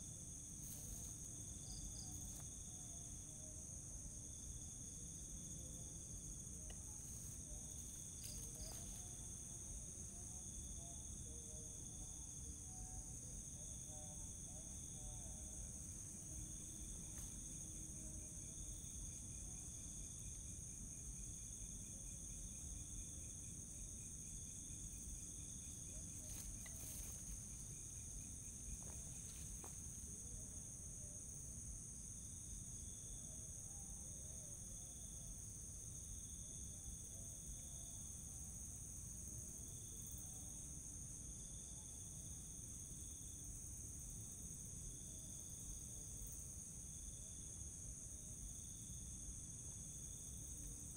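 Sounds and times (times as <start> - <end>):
crickets chirring: 0.0 - 50.9
low background hiss: 0.0 - 50.9.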